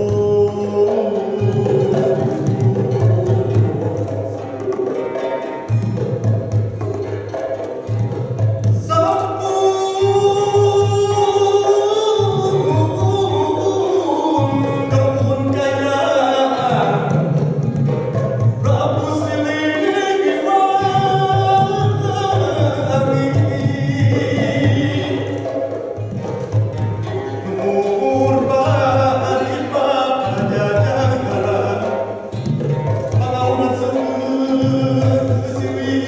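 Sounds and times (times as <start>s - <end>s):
gliding melody line: 0.0s - 36.0s.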